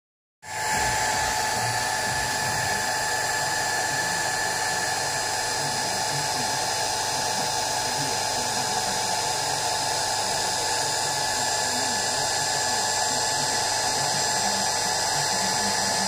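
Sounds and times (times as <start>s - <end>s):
electric motor and fan whining: 0.4s - 16.0s.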